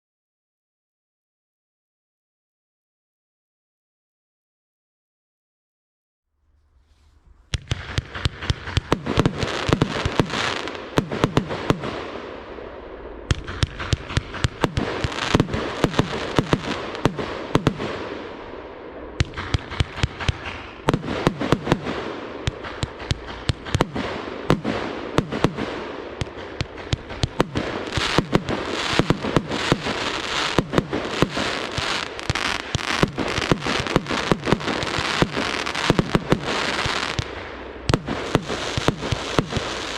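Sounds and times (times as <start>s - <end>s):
rushing hiss of fireworks: 6.6s - 39.9s.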